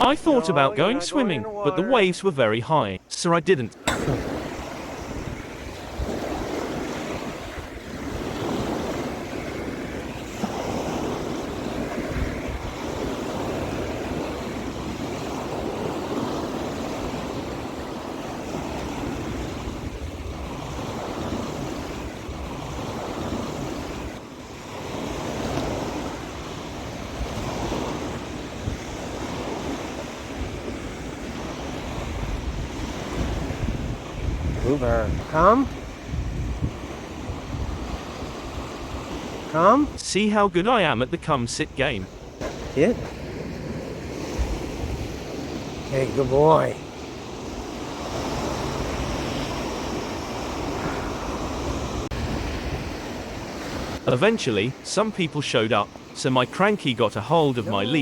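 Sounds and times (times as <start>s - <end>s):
ocean surf breaking on beach: 0.0s - 58.0s
wind buffeting microphone: 3.8s - 39.5s, 42.1s - 54.0s.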